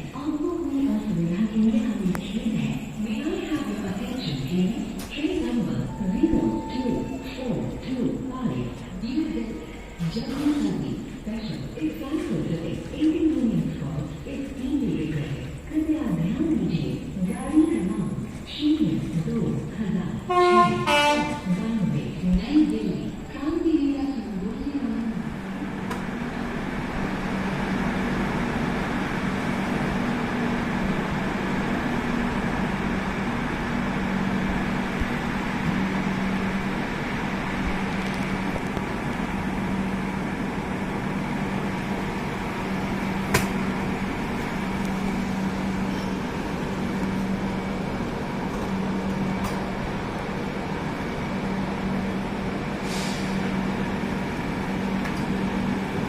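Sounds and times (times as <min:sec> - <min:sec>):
train machine hum: 0:00.0 - 0:56.0.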